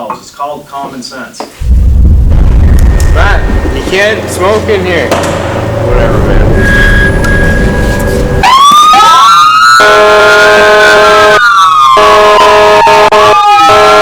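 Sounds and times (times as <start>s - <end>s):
emergency sirens wailing: 2.3s - 14.0s.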